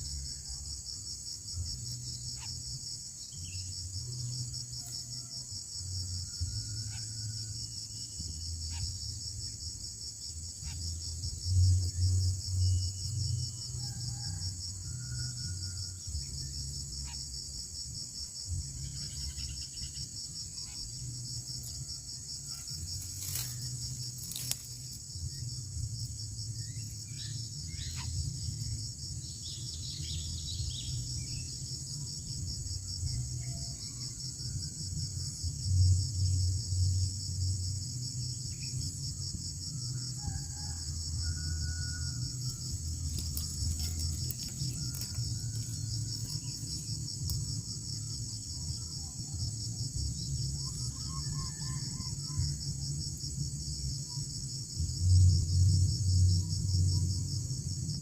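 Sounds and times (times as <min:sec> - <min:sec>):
high insect chorus trilling: 0:00.0 - 0:58.0.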